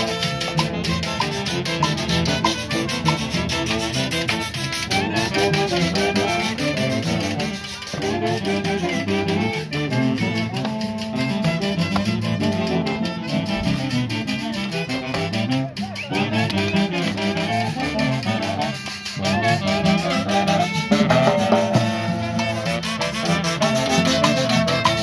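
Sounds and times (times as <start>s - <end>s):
brass-led folk orchestra tune: 0.0s - 25.0s.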